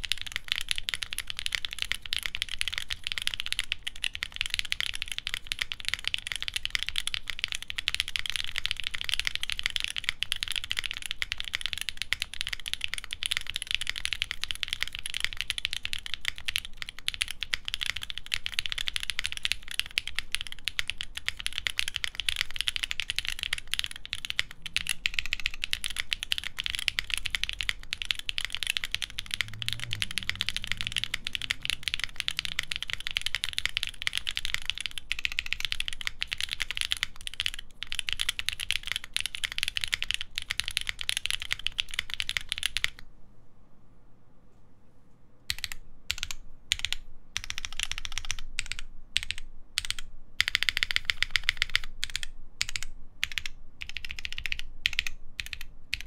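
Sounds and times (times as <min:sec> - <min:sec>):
mechanical keyboard typing: 0:00.0 - 0:43.0, 0:45.5 - 0:56.0.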